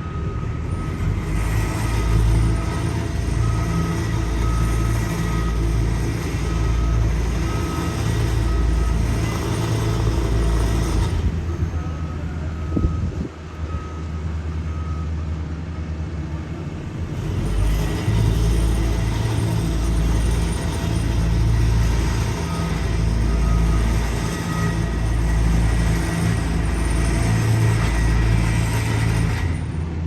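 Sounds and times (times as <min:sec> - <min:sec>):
reversing alarm beeping: 0:00.0 - 0:16.5, 0:17.1 - 0:29.6
diesel engine drone: 0:00.0 - 0:30.0.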